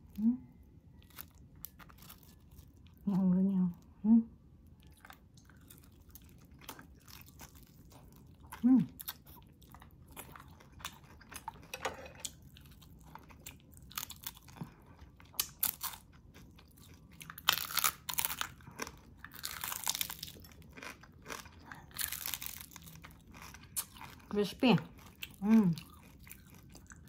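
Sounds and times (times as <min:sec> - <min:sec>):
chewing and crunching fried fish: 0:00.0 - 0:03.4, 0:04.5 - 0:27.0.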